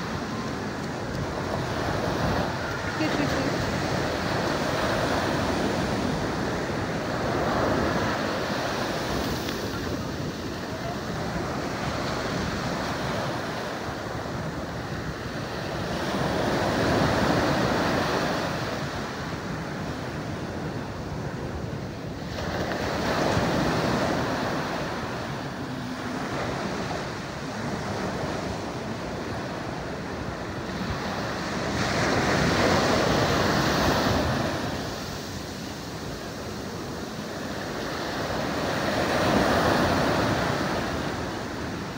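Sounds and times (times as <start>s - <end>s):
ocean surf breaking on beach: 0.0s - 41.9s.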